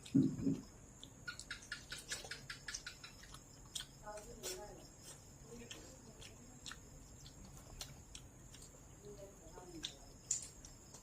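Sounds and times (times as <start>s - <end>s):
person chewing with smacking clicks: 0.0s - 11.0s.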